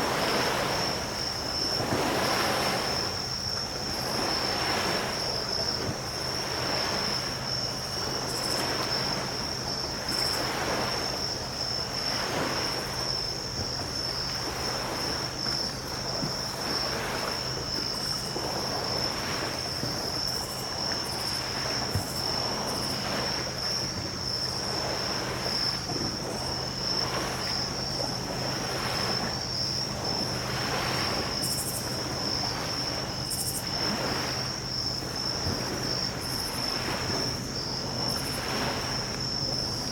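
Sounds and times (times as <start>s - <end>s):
night insects chirring: 0.0s - 39.9s
small waves washing onto shore: 0.0s - 39.9s.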